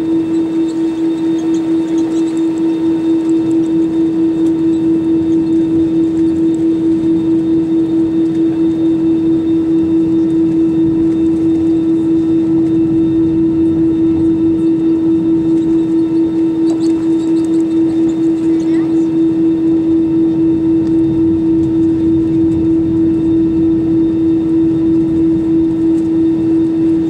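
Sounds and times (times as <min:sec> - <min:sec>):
pulsing aircraft cabin drone: 0:00.0 - 0:27.0.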